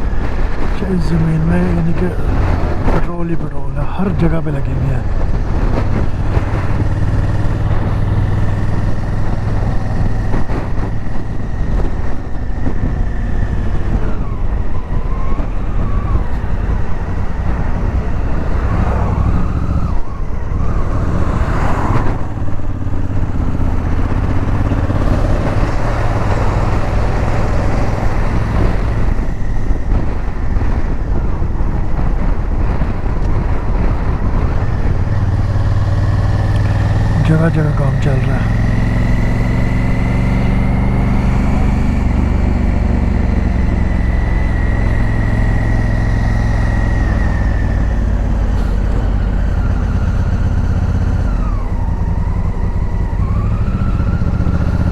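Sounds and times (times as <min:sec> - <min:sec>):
motorcycle engine drone: 0:00.0 - 0:54.9
road and wind noise: 0:00.0 - 0:54.9.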